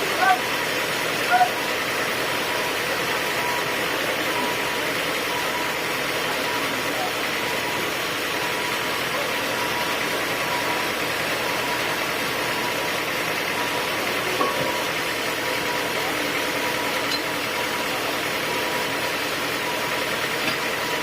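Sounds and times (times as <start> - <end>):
sawmill machinery running: 0.0 - 21.0.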